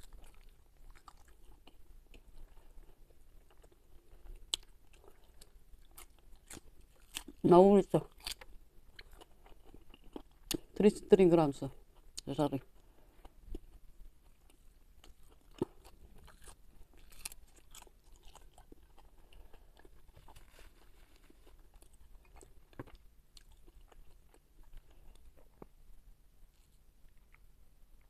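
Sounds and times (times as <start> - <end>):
chewing with crisp crunches: 0.0 - 10.9, 11.6 - 28.0.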